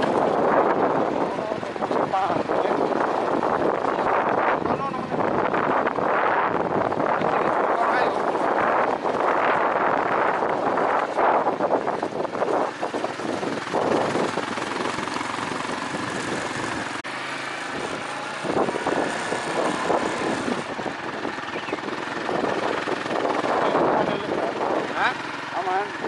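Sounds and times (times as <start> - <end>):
vehicle engine running under load: 0.0 - 26.0.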